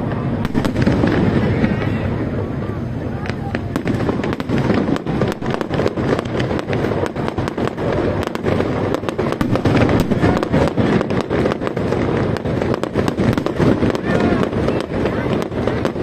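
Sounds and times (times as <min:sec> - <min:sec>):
fireworks cracking and banging: 0:00.0 - 0:16.0.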